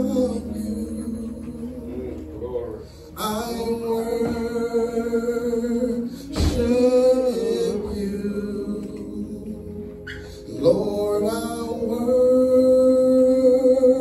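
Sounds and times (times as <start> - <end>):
man singing into microphone: 0.0 - 2.4, 3.1 - 14.0.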